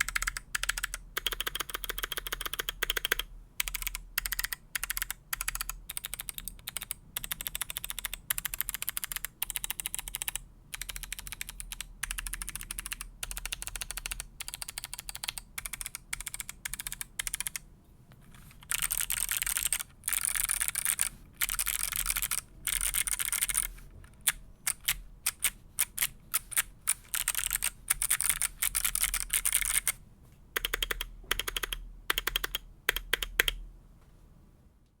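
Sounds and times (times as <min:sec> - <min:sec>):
clicky mechanical keyboard typing: 0:00.0 - 0:17.6, 0:18.3 - 0:30.0, 0:30.6 - 0:33.6.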